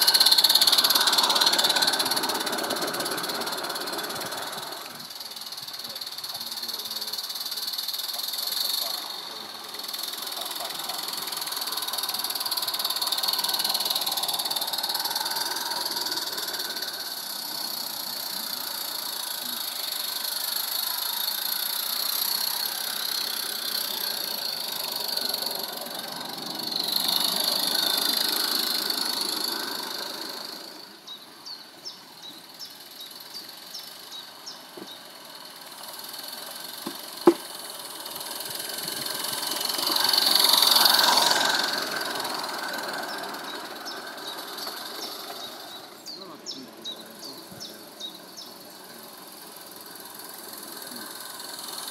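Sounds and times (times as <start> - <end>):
model train rolling whir: 0.0 - 51.9.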